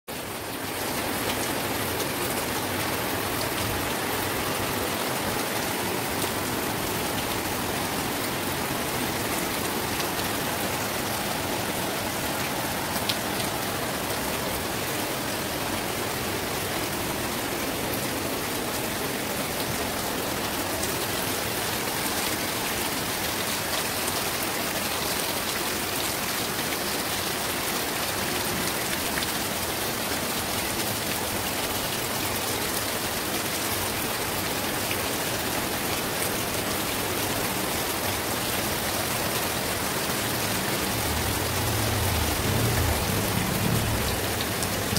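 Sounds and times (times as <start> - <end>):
rain on wet concrete: 0.1 - 44.9.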